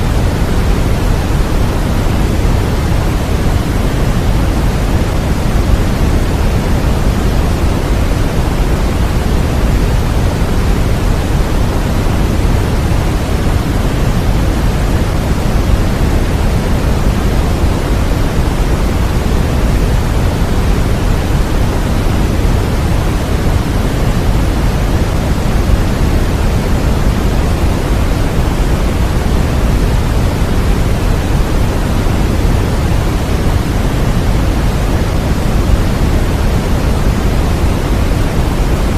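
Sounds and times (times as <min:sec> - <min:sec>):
steady low-weighted noise hiss: 0:00.0 - 0:38.9.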